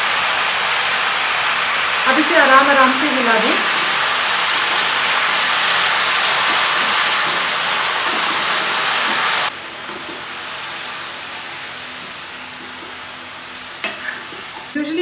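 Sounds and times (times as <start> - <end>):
mushrooms sizzling in hot oil: 0.0 - 14.8.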